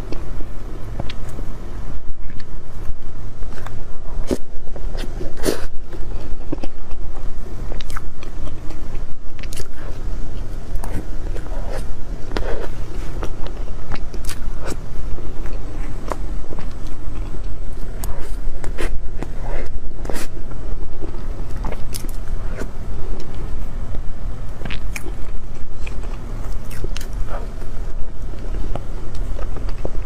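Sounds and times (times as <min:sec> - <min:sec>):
steady low rumble: 0:00.0 - 0:30.0
biting and chewing: 0:00.9 - 0:01.4, 0:02.1 - 0:30.0.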